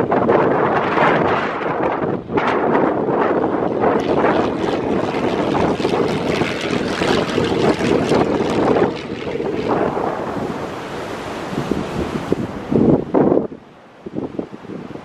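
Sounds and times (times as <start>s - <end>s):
propeller aircraft engine drone: 0.0s - 15.0s
wind buffeting microphone: 0.0s - 15.0s.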